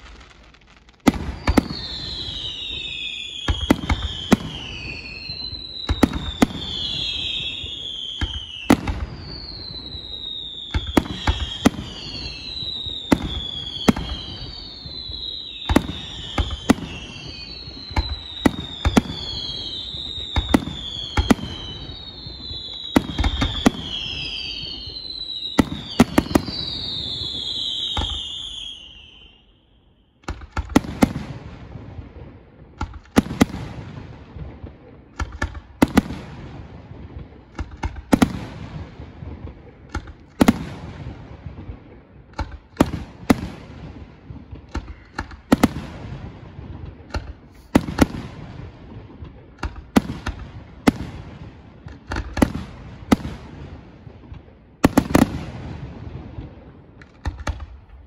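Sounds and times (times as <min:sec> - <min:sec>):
fireworks bursting: 0:00.0 - 0:29.4, 0:30.2 - 0:58.0.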